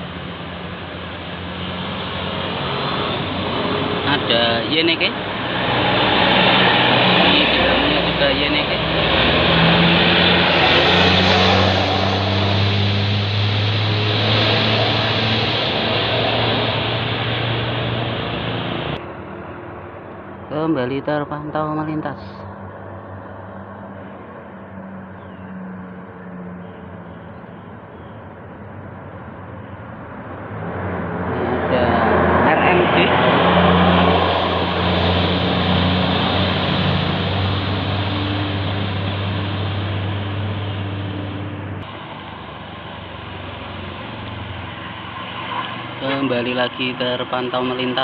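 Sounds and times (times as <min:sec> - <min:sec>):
bus diesel engine droning: 0:00.0 - 0:30.5, 0:31.7 - 0:48.0
road noise rushing: 0:00.0 - 0:48.0.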